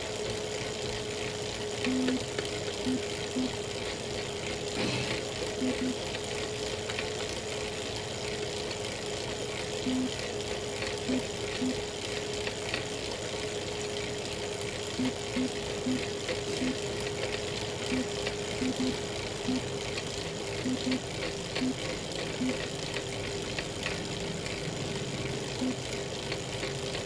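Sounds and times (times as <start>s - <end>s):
bike trainer whine: 0.0s - 27.0s.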